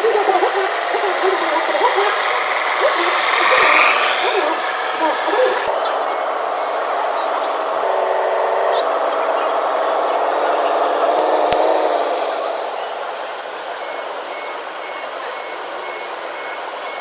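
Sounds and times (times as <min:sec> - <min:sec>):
reversing beeper: 0:00.0 - 0:17.0
toy truck motor whining: 0:00.0 - 0:17.0.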